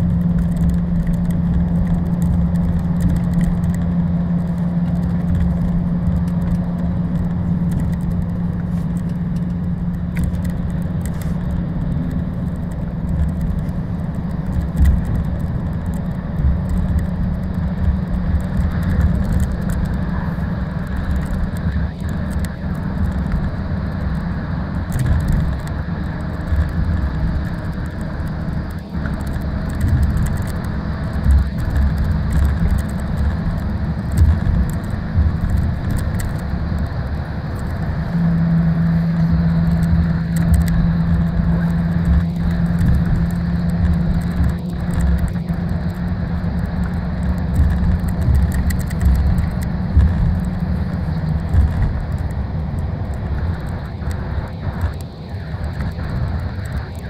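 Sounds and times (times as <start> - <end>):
coach engine drone: 0.0 - 57.0
tyre road rumble: 0.0 - 57.0.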